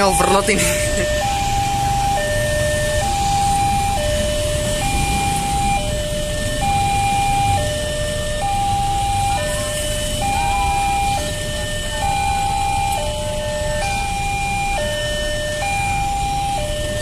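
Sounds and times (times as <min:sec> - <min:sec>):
motorcycle and truck engines idling: 0:00.0 - 0:17.0
two-tone crossing alarm: 0:00.0 - 0:17.0.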